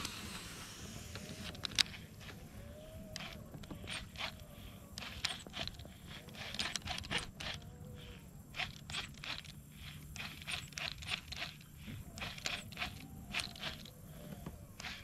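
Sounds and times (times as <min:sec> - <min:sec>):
fishing reel clicking: 0:01.1 - 0:15.0.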